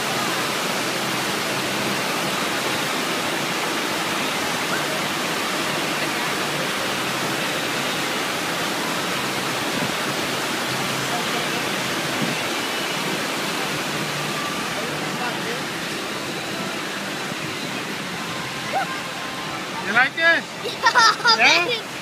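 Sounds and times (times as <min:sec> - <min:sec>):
water rushing with a hiss: 0:00.0 - 0:22.0.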